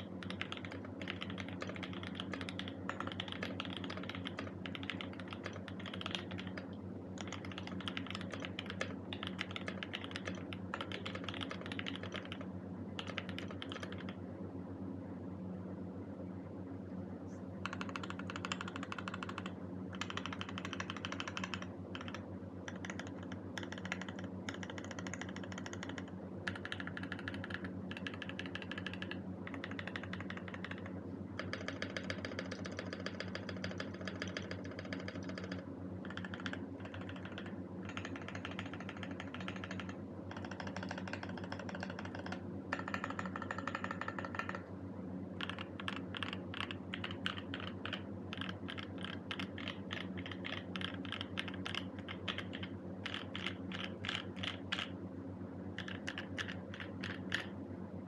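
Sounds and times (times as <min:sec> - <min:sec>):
mechanical keyboard key clacks: 0:00.0 - 0:06.6, 0:07.2 - 0:12.4, 0:17.7 - 0:44.6, 0:45.4 - 0:54.9, 0:55.8 - 0:57.5
steady low hum: 0:00.0 - 0:58.0.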